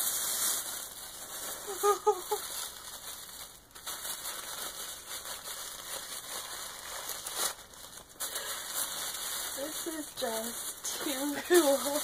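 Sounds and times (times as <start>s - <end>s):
tissue paper rustling: 0.0s - 12.0s.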